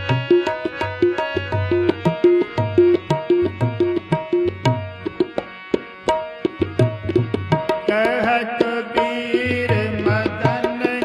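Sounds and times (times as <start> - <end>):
sustained harmonium notes: 0.0 - 11.0
tabla strokes: 0.0 - 11.0.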